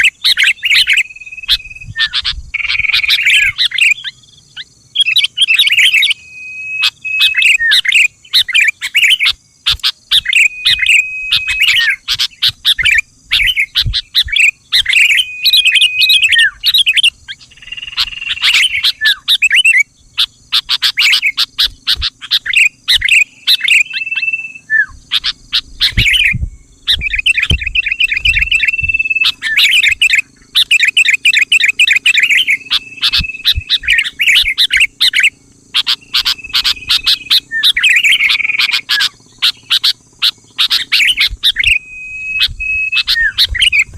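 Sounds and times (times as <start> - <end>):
bulbul song with whistled notes: 0.0 - 43.9.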